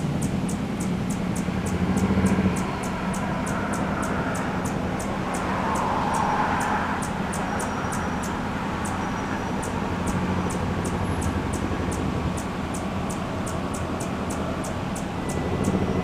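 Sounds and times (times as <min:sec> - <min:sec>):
hummingbird chip notes: 0:00.0 - 0:16.0
road traffic noise: 0:00.0 - 0:16.0.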